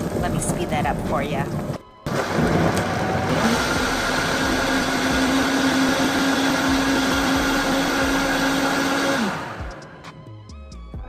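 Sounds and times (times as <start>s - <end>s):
blender whirring: 0.0s - 10.0s.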